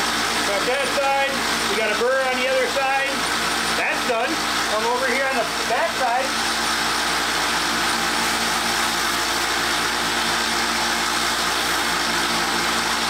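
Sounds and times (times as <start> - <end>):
belt sander grinding steel: 0.0 - 13.0.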